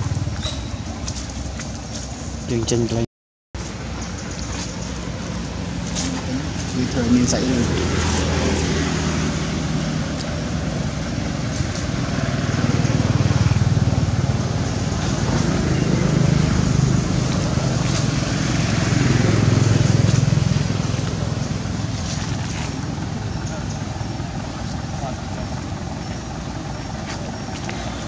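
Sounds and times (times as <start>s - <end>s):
low engine drone: 0.0s - 3.0s, 3.6s - 28.0s.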